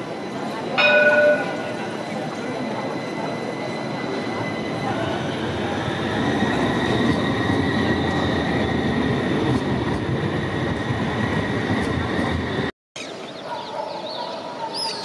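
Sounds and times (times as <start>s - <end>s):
tram wheels rumbling on rails: 0.0s - 12.7s.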